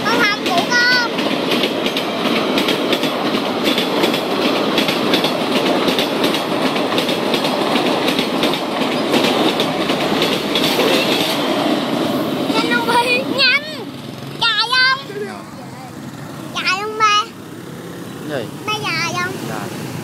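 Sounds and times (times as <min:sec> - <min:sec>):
train rumbling past: 0:00.0 - 0:20.0
wheels clattering over rails: 0:00.0 - 0:20.0.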